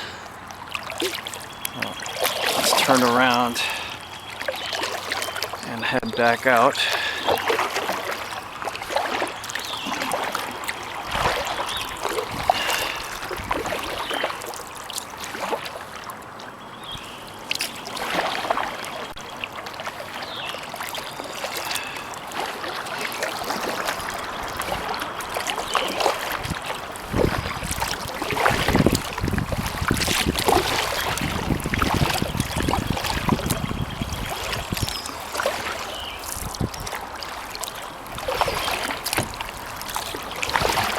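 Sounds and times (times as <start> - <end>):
kayak paddle splashing: 0.0 - 40.9
water dripping off paddle: 0.4 - 16.5, 17.4 - 40.9.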